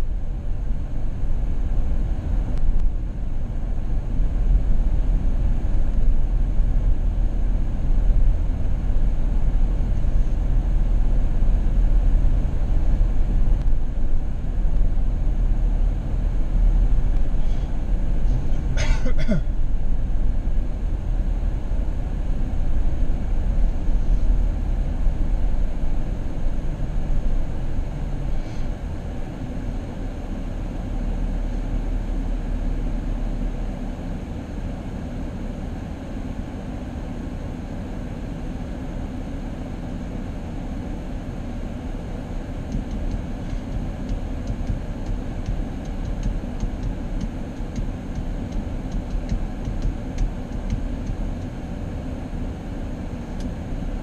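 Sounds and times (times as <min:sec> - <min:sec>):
vehicle rumble: 0:00.0 - 0:36.6, 0:38.8 - 0:54.0.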